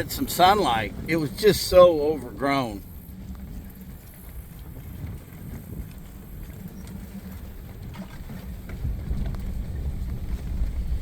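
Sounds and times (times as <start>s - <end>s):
vehicle moving rumble: 0.0s - 11.0s.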